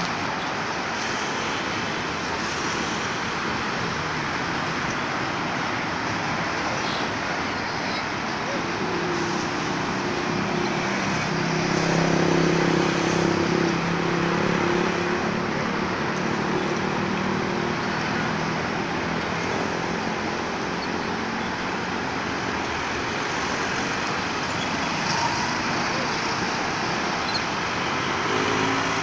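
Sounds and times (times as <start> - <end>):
road traffic noise: 0.0 - 29.0
vehicle engine hum: 0.0 - 29.0.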